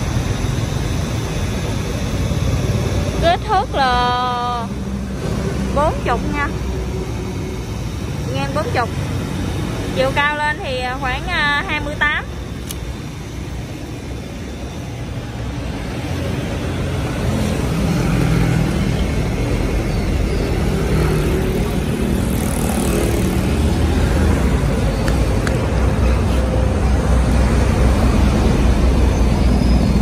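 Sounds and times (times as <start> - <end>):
bench grinder motor humming: 4.6 - 29.4.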